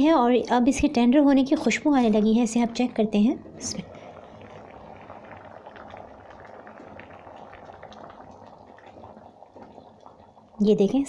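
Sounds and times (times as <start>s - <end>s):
dal simmering and bubbling: 0.0s - 11.0s.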